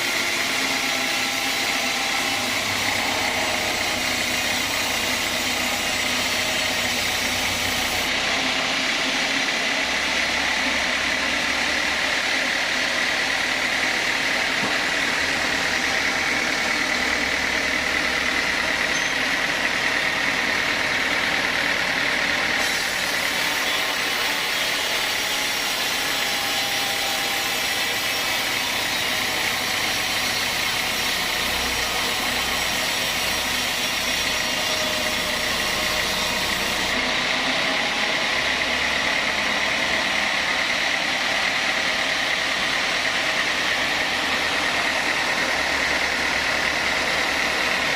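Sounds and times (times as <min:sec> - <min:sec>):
sawmill saw and engine running: 0:00.0 - 0:47.9.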